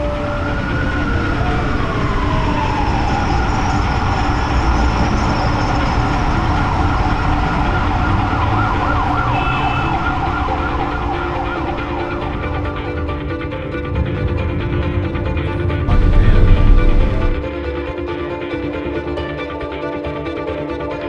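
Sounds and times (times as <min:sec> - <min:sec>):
low traffic rumble: 0:00.0 - 0:17.7
emergency vehicle siren wailing: 0:00.0 - 0:21.0.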